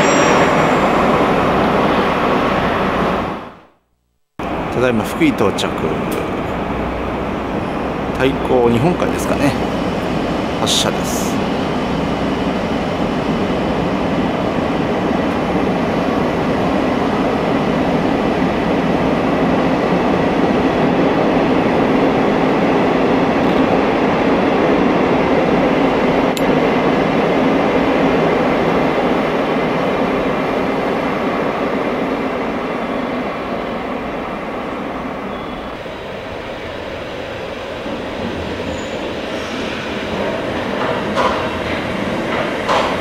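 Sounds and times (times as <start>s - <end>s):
train motors and wheels rumbling: 4.4s - 43.0s.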